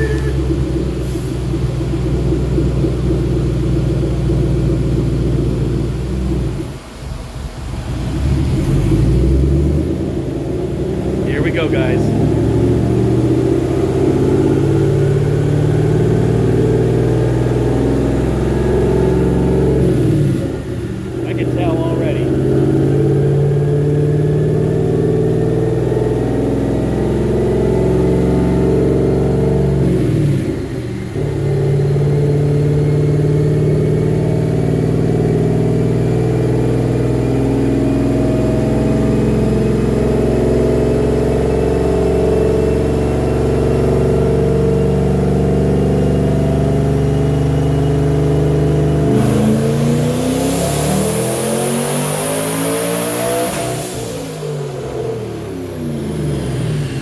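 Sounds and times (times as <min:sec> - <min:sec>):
engine revving under load: 0:00.0 - 0:07.0, 0:07.6 - 0:57.0.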